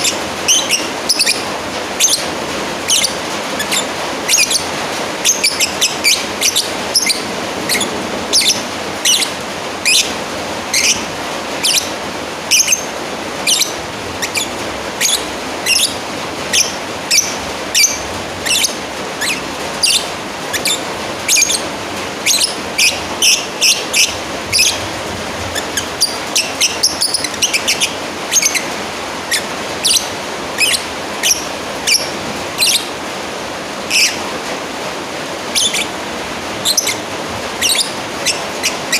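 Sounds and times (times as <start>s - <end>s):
lovebird shrill chirps: 0.0s - 24.9s, 25.5s - 32.9s, 33.9s - 34.2s, 35.5s - 36.0s, 36.6s - 38.9s.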